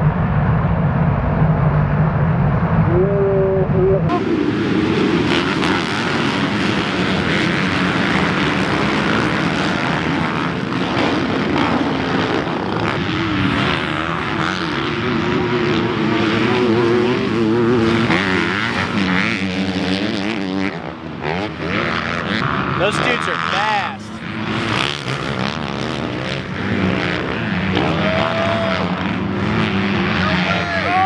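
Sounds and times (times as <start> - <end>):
dirt bike engines revving past: 2.9 - 31.0.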